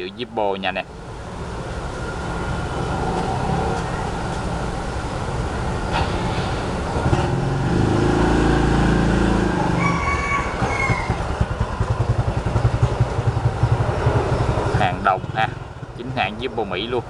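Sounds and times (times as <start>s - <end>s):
vehicle engine running: 0.8s - 17.0s.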